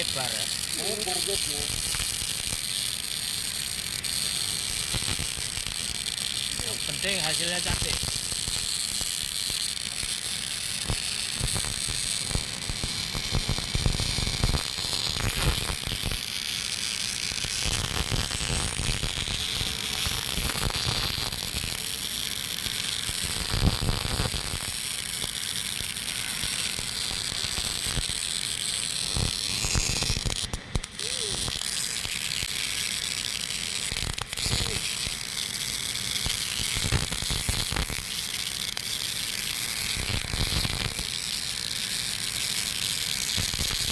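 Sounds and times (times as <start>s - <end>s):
welding arc crackling and buzzing: 0.0s - 43.9s.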